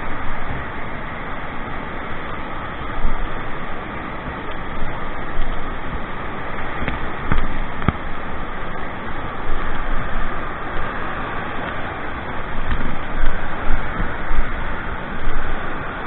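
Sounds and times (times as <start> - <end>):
white water rushing over a weir: 0.0 - 16.0.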